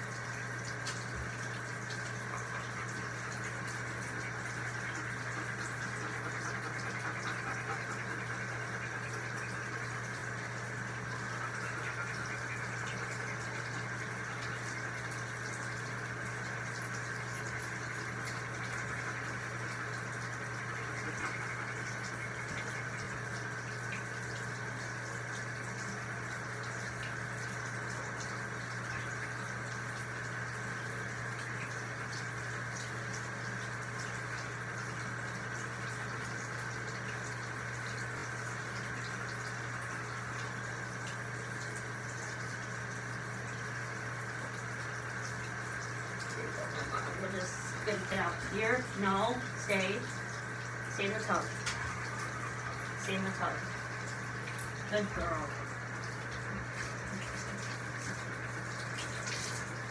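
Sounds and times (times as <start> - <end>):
water running into bathtub: 0.0 - 59.9.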